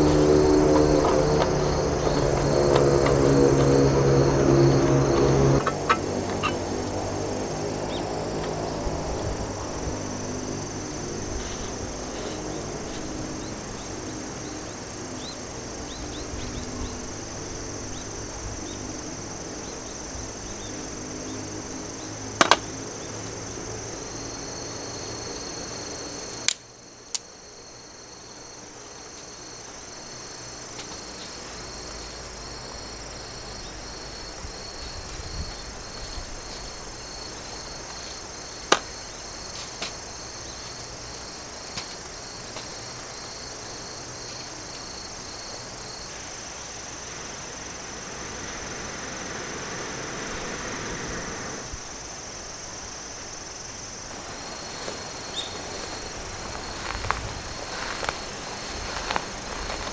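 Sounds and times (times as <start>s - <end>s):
insects chirring: 0.0s - 59.9s
pulsing cricket chirp: 0.0s - 59.9s.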